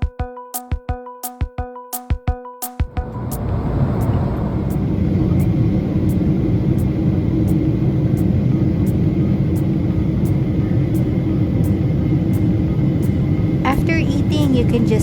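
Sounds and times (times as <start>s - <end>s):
airliner cabin drone: 2.9s - 15.0s.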